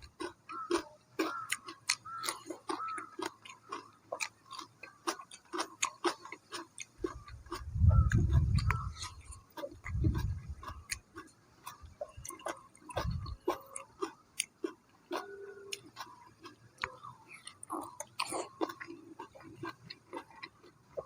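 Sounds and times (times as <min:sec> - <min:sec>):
person chewing: 0:00.0 - 0:21.0
wet mouth clicks: 0:00.2 - 0:14.6, 0:15.2 - 0:20.5.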